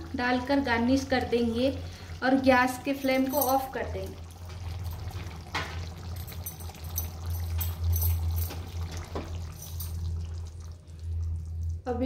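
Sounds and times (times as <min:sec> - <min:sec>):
curry bubbling: 0:00.0 - 0:12.0
low steady hum: 0:00.0 - 0:12.0.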